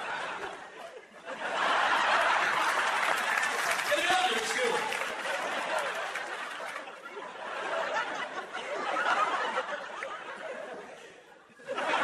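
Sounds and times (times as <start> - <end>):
large audience laughing: 0.0 - 12.0.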